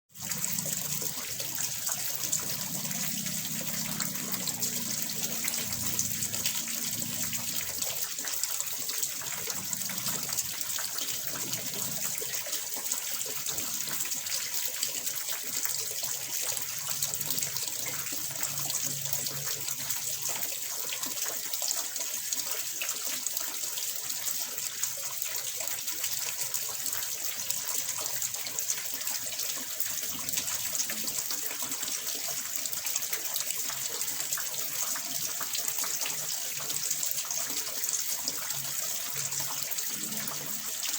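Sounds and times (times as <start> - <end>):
water splashing into a pond: 0.1 - 40.9.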